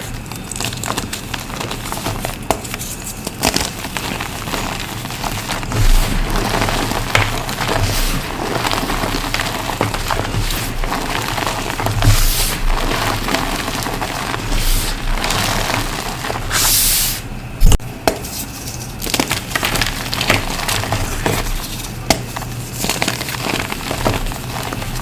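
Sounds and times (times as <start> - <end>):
chalk blocks crunching: 0.0 - 17.1, 18.1 - 25.0.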